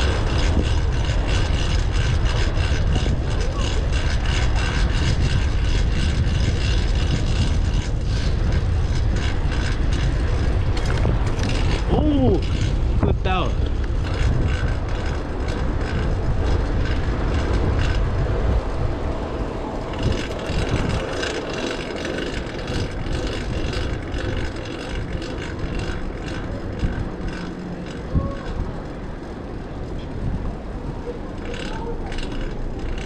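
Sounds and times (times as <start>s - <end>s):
bicycle chain noise: 0.0s - 33.0s
wind buffeting microphone: 0.0s - 33.0s.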